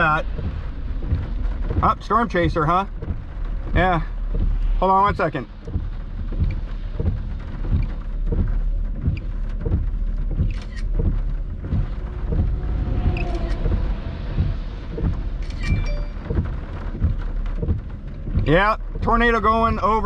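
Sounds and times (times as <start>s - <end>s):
heavy rain on vehicle: 0.0s - 20.0s
low repeating thump: 0.0s - 20.0s
road rumble: 0.0s - 20.0s.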